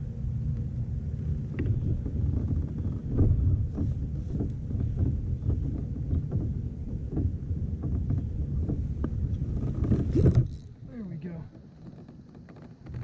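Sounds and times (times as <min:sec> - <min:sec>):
wind buffeting microphone: 0:00.0 - 0:11.6
small knocks and clicks: 0:00.5 - 0:10.8, 0:11.5 - 0:13.0.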